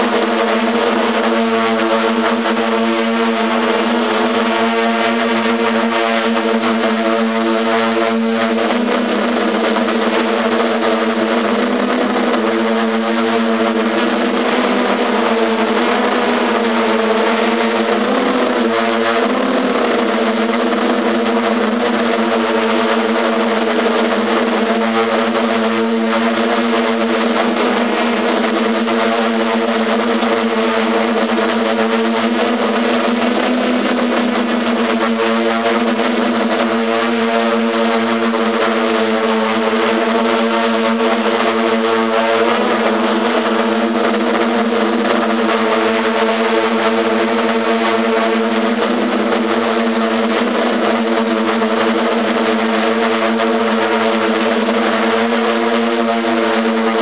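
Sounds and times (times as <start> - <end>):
drone motors and propellers buzzing: 0.0 - 57.0.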